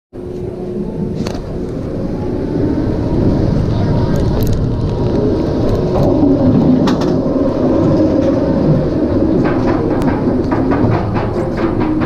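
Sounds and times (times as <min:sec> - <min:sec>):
roller coaster rumbling on track: 0:00.2 - 0:12.0.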